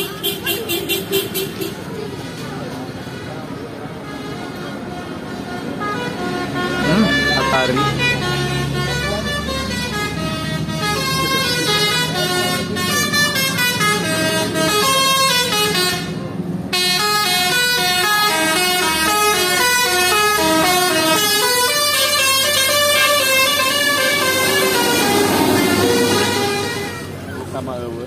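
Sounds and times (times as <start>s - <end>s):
multi-tone musical bus horn: 0.0s - 1.9s, 3.9s - 27.3s
bus engine running: 0.0s - 28.0s.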